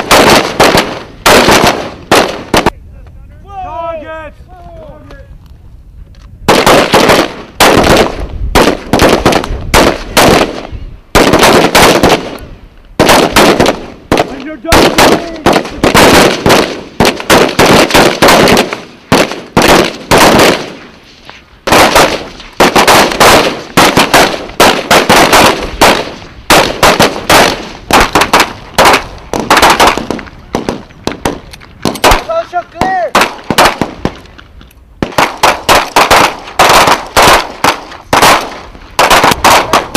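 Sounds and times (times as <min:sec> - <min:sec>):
rifle shots: 0:00.0 - 0:02.8, 0:06.5 - 0:20.9, 0:21.6 - 0:34.2, 0:35.0 - 0:39.9.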